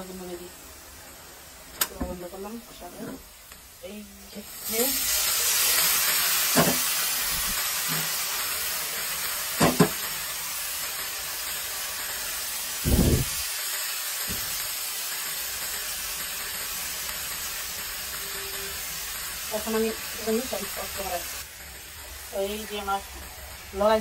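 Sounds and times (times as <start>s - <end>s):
greens sizzling in a wok: 0.0s - 24.0s.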